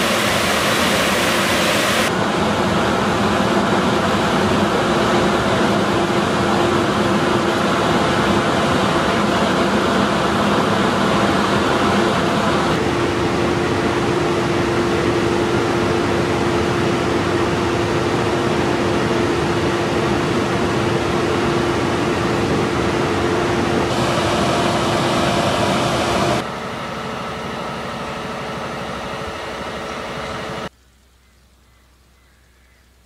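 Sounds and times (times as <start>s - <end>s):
machinery humming: 0.0s - 30.7s.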